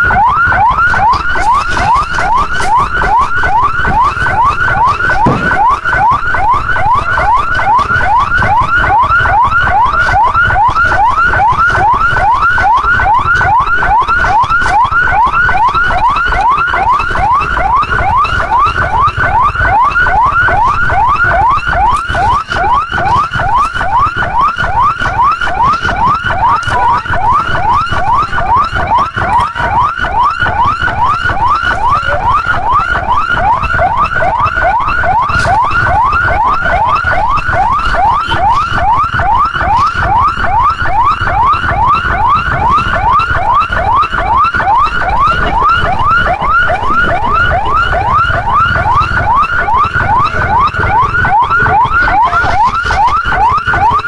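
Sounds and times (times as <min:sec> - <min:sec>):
emergency siren yelping: 0:00.0 - 0:54.0.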